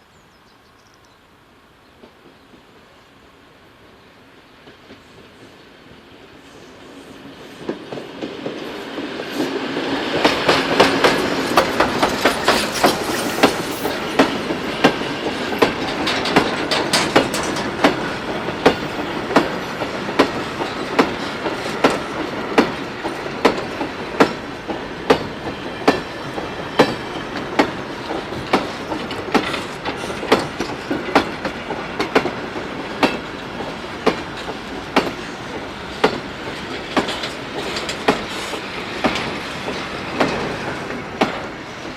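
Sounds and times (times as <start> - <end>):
steam locomotive running: 2.0 - 41.9.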